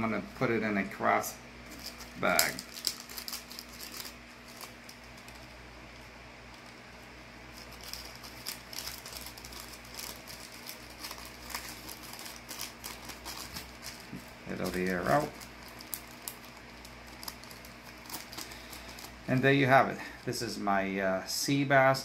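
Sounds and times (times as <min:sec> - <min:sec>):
plastic bag crinkling: 0:01.6 - 0:20.5.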